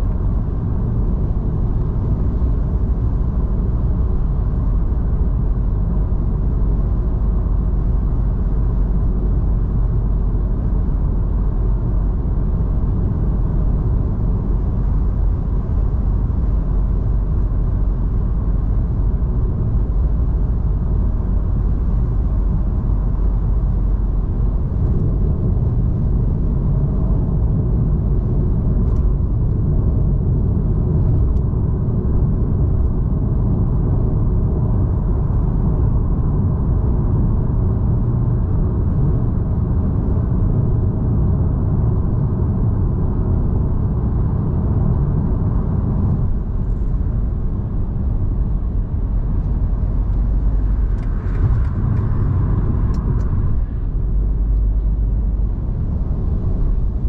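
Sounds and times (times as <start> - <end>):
car cruising low rumble: 0.0 - 57.0.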